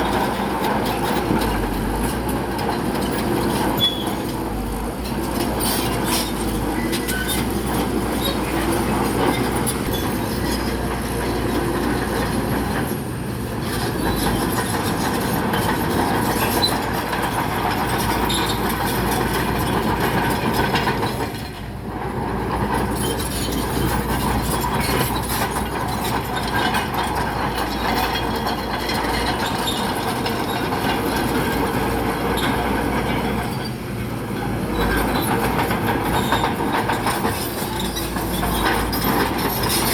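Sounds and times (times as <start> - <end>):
bulldozer engine running: 0.0 - 39.9
steel tracks clattering: 0.0 - 39.9.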